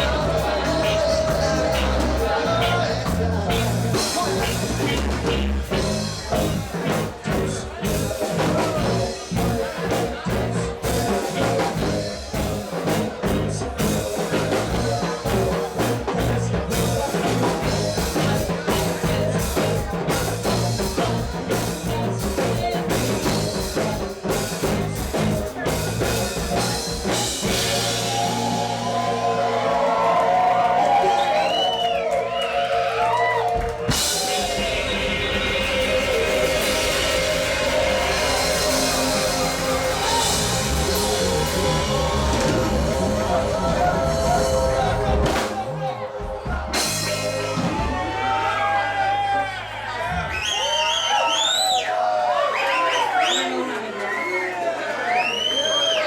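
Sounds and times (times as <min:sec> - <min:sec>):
reggae band playing: 0:00.0 - 0:52.1.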